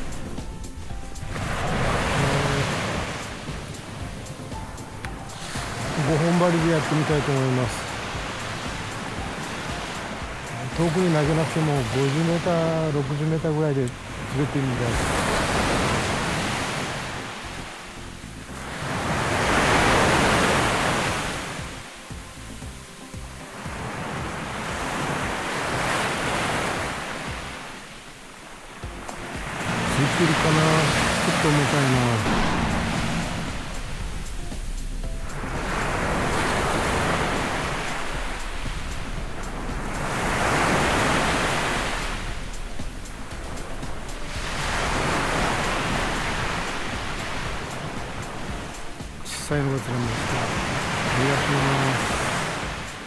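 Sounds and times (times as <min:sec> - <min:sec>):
ocean waves breaking: 0:00.0 - 0:53.0
surf washing onto beach: 0:00.0 - 0:53.0.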